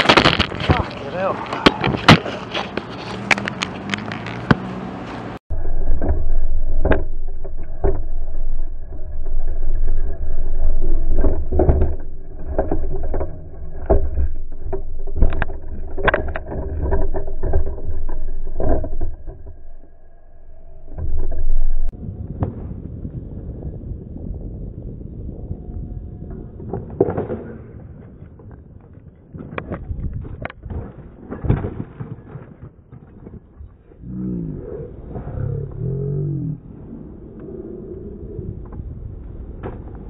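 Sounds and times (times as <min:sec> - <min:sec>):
wind rumbling on microphone: 0:05.4 - 0:40.0.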